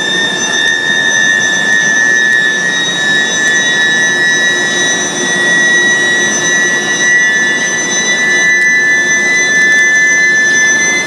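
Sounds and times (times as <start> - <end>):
high-pitched furnace whine: 0.0 - 11.0.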